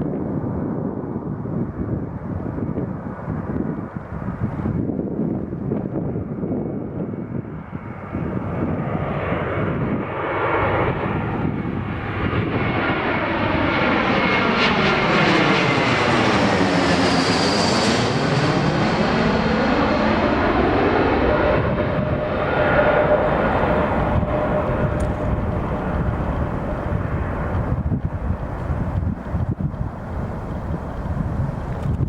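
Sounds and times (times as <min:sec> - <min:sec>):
jet airliner flying past: 0:00.0 - 0:32.0.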